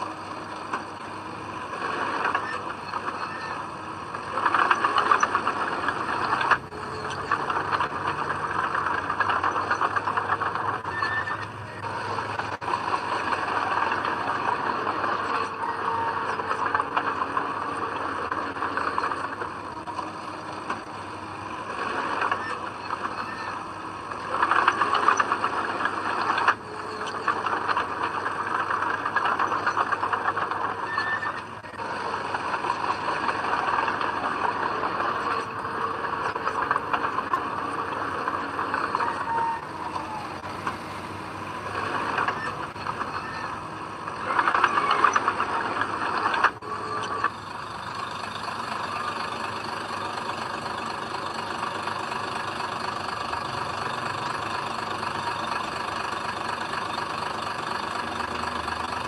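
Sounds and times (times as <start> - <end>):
heavy diesel machine engine: 0.0 - 59.0.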